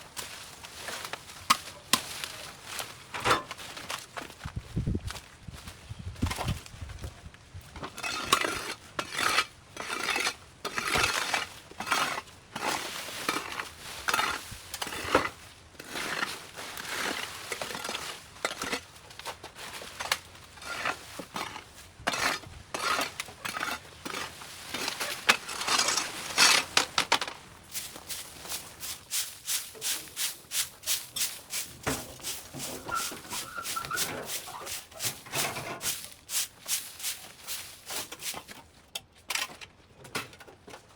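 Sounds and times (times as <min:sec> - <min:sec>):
hand tool scraping ground: 0:00.1 - 0:04.4, 0:07.8 - 0:39.6.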